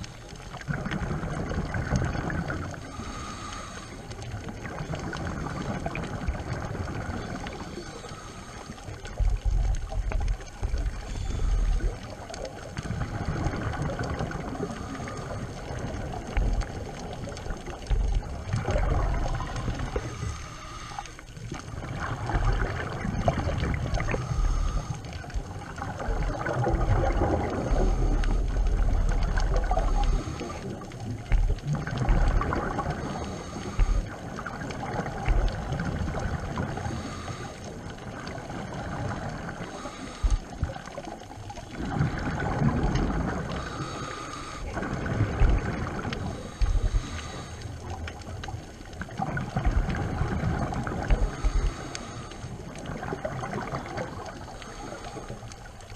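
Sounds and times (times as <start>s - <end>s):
underwater bubbles gurgling: 0.0s - 55.9s.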